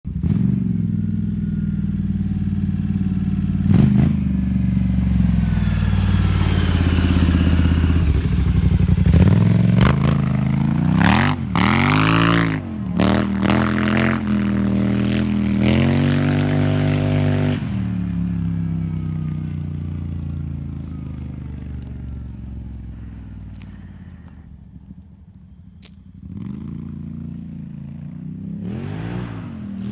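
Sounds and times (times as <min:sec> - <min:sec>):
atv engine revving: 0:00.1 - 0:29.9.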